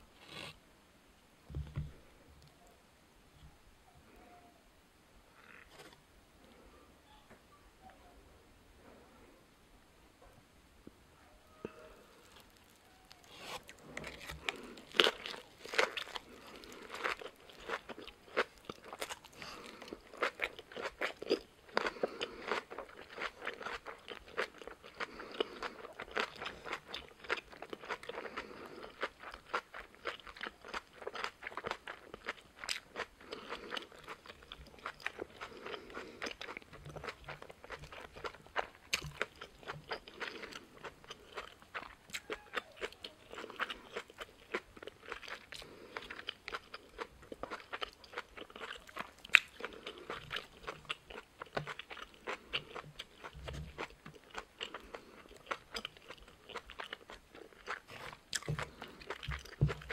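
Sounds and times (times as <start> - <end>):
crunchy chewing: 0.2 - 0.6, 11.6 - 59.9.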